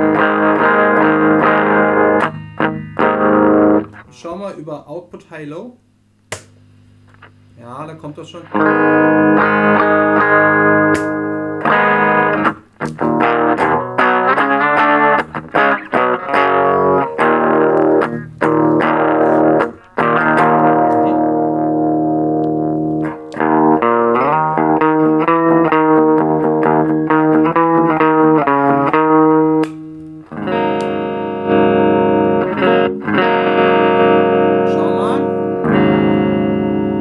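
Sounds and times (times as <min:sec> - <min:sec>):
distorted electric guitar chords: 0:00.0 - 0:04.3, 0:08.2 - 0:37.0.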